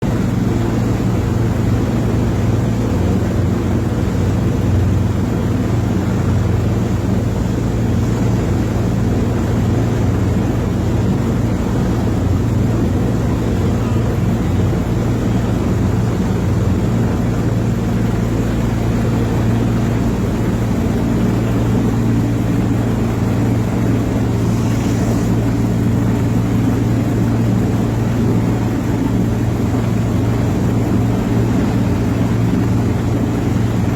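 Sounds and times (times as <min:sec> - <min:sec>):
helicopter hovering drone: 0:00.0 - 0:33.9.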